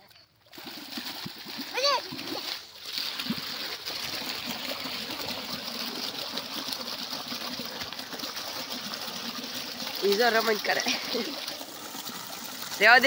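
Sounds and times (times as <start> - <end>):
water gushing and splashing: 0.0 - 13.0.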